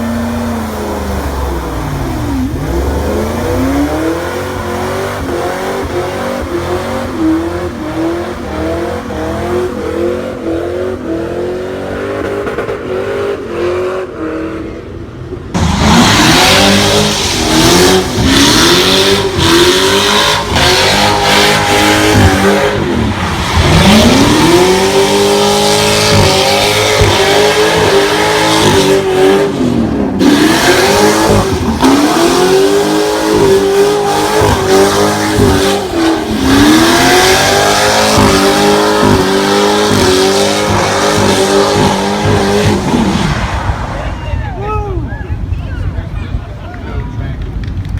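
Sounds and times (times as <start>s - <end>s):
car engine revving: 0.0s - 44.1s.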